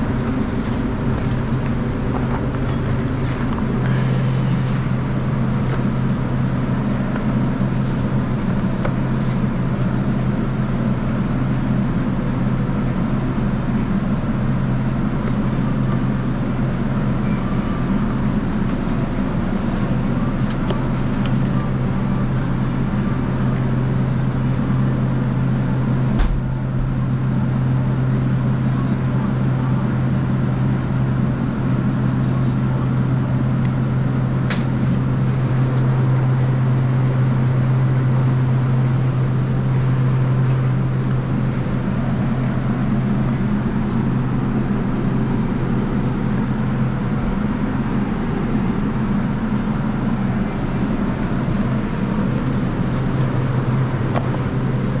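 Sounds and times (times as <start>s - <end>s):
refrigeration machinery hum: 0.0s - 55.0s.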